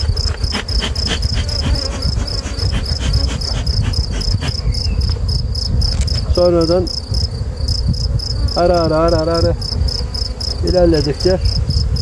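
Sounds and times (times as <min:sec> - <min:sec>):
insect chirping rapidly: 0:00.0 - 0:12.0.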